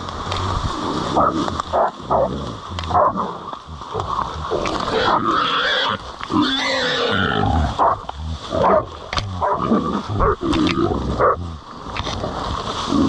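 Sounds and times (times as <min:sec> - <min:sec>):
boar squealing and grunting: 0:01.1 - 0:13.0.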